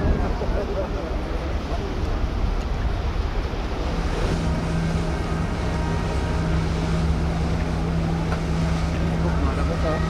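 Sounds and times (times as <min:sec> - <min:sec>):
ship engine drone: 0:00.0 - 0:10.0
steady hum: 0:00.0 - 0:10.0
water washing: 0:00.0 - 0:10.0
wind buffeting microphone: 0:00.0 - 0:10.0.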